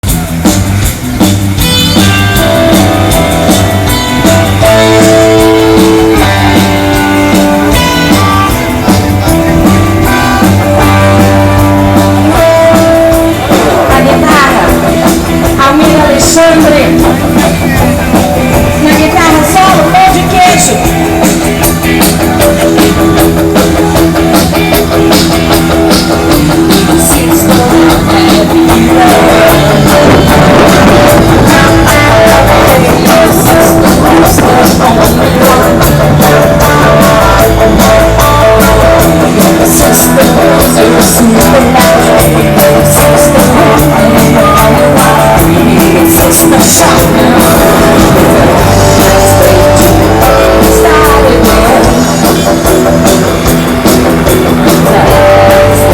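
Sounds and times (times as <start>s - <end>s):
drum kit: 0.0s - 55.9s
electric guitar: 0.0s - 55.9s.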